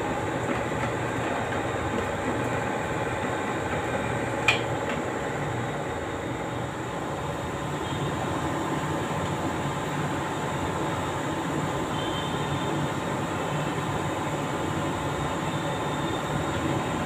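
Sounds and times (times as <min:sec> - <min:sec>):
machine hum with faint whine: 0:00.0 - 0:17.0.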